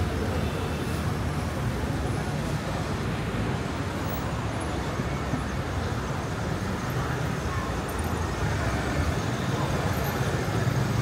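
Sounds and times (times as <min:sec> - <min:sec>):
passers-by voices: 0:00.0 - 0:11.0
road traffic hum: 0:00.0 - 0:11.0.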